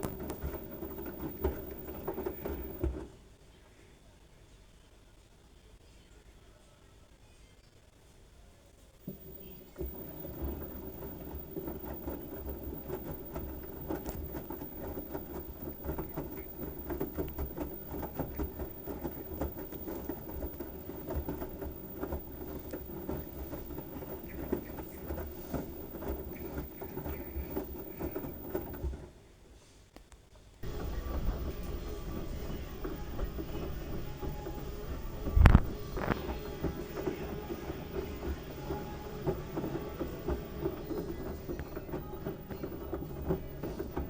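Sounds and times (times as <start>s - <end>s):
washing machine drum sloshing: 0.0s - 3.2s, 9.0s - 29.1s, 30.6s - 44.0s.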